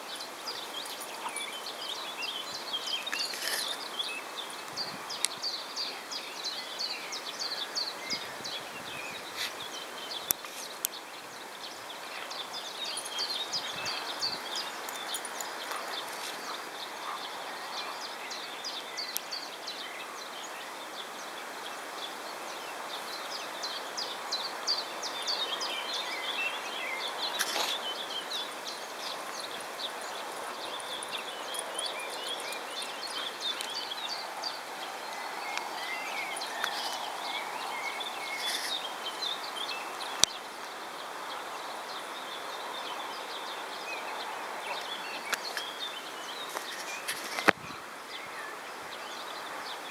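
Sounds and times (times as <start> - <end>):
songbirds chirping: 0.0 - 49.9
steady background hiss: 0.0 - 49.9.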